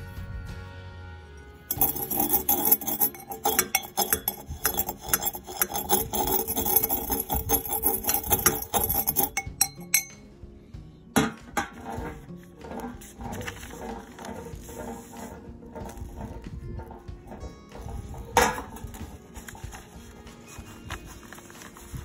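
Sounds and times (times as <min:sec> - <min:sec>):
background music: 0:00.0 - 0:22.0
grit rattling against glass: 0:01.7 - 0:10.3, 0:11.6 - 0:22.0.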